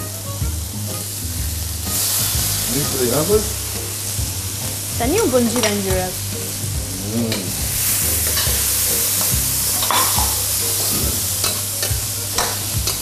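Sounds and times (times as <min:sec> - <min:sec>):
vegetables sizzling in wok: 0:00.0 - 0:13.0.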